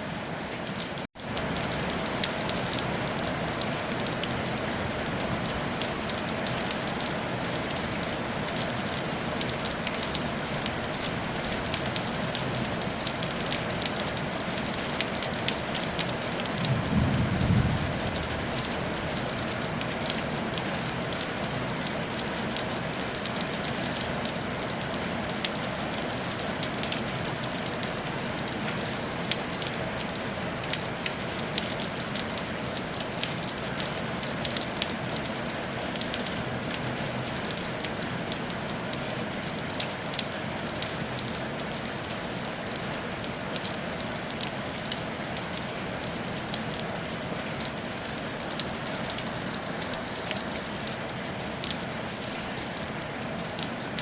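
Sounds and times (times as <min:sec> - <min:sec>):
rain on a tile roof: 0:00.0 - 0:54.0.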